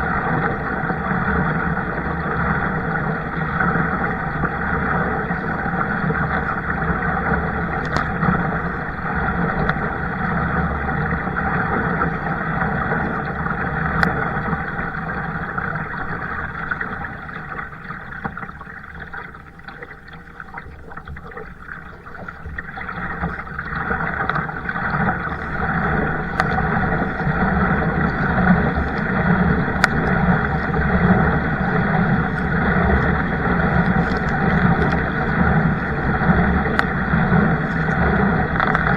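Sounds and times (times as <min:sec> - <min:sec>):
rushing water noise: 0:00.0 - 0:38.9.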